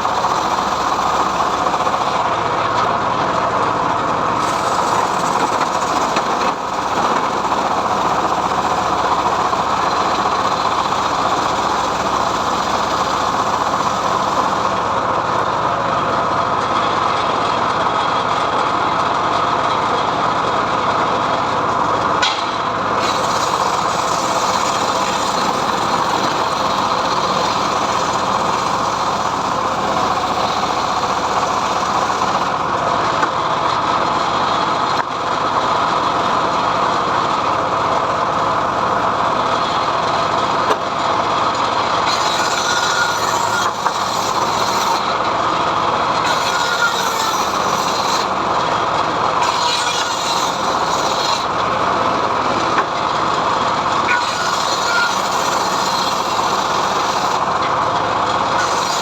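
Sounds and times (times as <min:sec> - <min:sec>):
engine-driven log saw cutting: 0:00.0 - 0:59.0.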